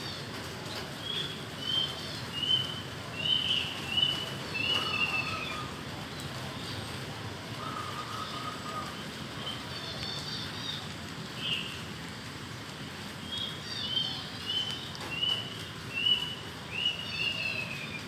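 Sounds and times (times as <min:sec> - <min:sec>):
small birds chirping: 0:00.0 - 0:18.0
steady rain falling: 0:00.0 - 0:18.0.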